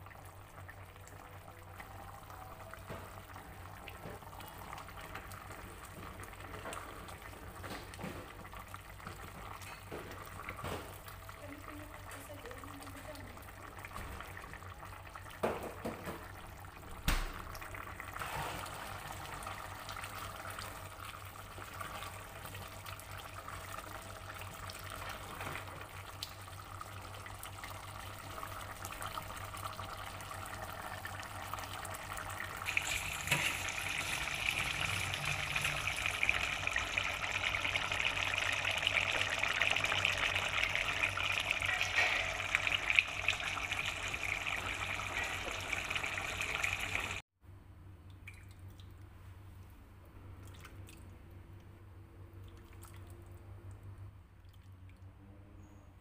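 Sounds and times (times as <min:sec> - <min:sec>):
stew bubbling in a pot: 0:00.0 - 0:47.2.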